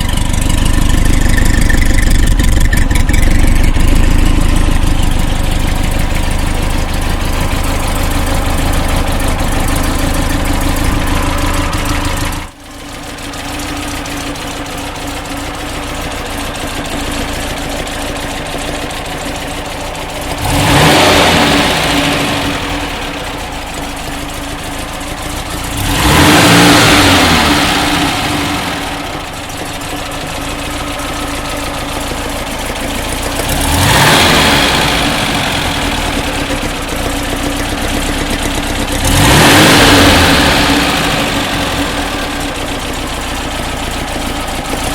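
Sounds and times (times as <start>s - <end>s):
car engine running and revving: 0.0s - 44.9s.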